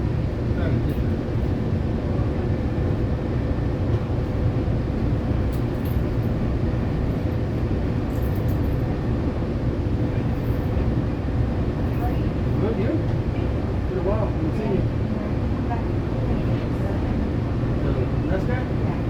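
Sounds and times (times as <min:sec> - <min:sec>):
train rumbling in motion: 0:00.0 - 0:19.0.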